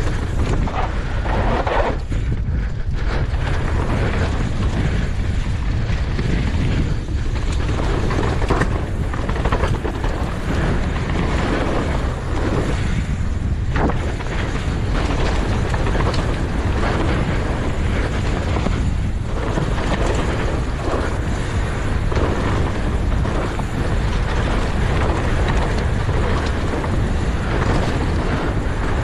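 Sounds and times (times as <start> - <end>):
bike rattling: 0.0 - 29.0
wind over microphone: 0.0 - 29.0.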